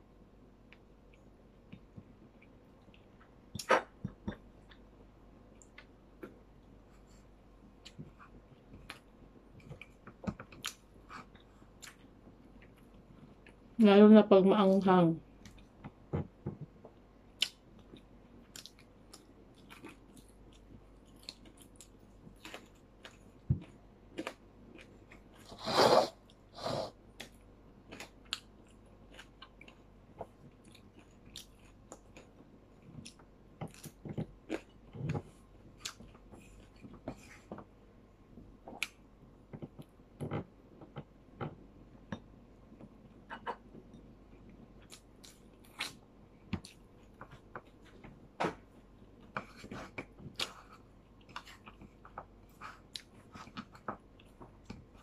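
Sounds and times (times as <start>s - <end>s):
person chewing food: 0.6s - 13.8s, 15.3s - 55.0s.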